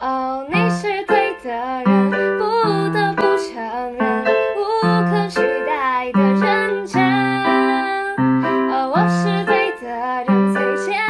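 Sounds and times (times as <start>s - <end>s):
pop song with female vocals: 0.0s - 11.0s.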